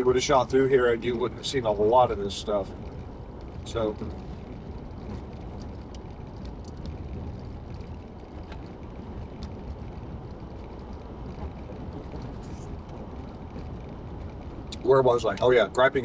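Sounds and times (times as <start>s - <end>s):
car tyre and road noise: 0.0s - 16.0s
faint ticks: 0.2s - 15.6s.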